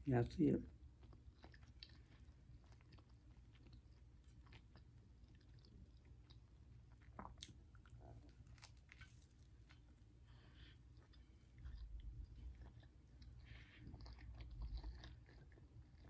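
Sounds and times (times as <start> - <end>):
faint chewing: 0.5 - 16.0.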